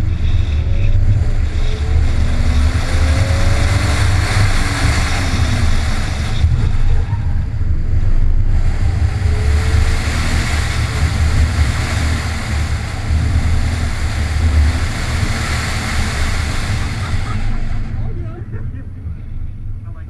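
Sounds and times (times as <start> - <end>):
wind noise rushing: 0.0 - 18.2
car engine running hard: 0.0 - 20.0.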